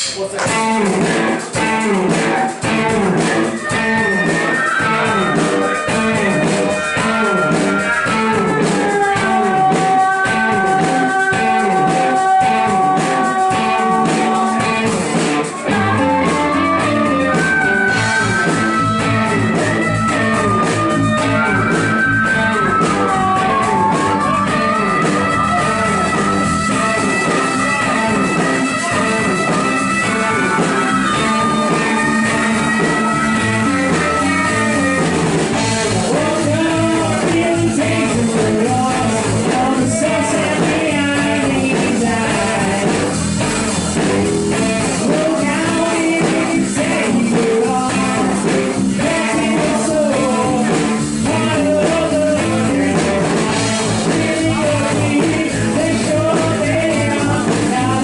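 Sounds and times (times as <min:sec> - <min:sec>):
electric guitar lead notes: 0:00.0 - 0:58.0
live rock band playing: 0:00.0 - 0:58.0.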